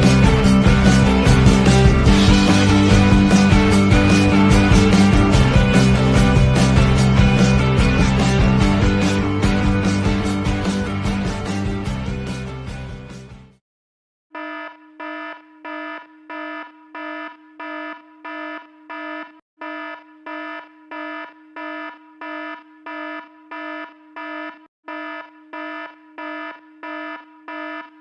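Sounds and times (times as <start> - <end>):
buzzy electronic alarm beeping: 0.0 - 11.2, 14.4 - 28.0.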